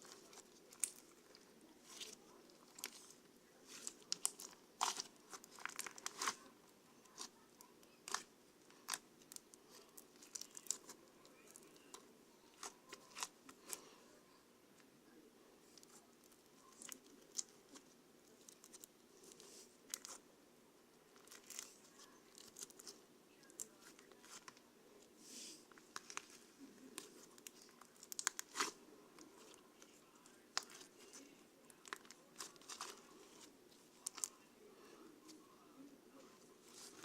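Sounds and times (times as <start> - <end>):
crinkling and small clicks: 0.0 - 14.0, 15.6 - 20.2, 21.1 - 25.1, 25.7 - 34.4.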